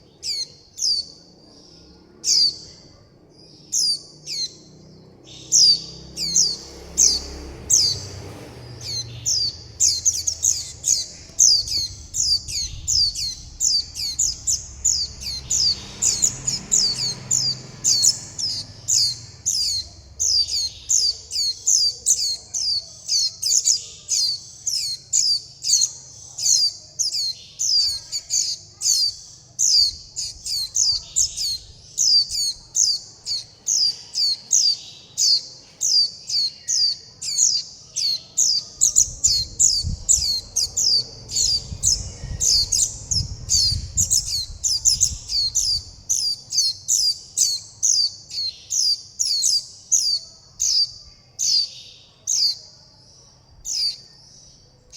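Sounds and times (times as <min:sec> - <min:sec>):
fledgling birds begging calls: 0:00.0 - 0:52.9, 0:53.6 - 0:54.9.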